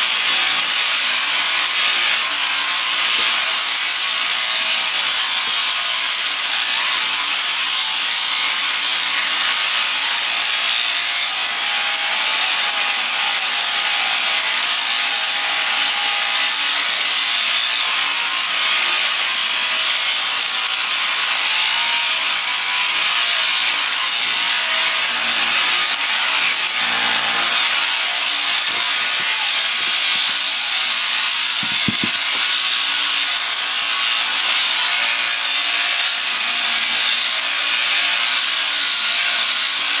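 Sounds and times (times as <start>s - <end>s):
sheep shearing clippers buzzing: 0.0s - 40.0s.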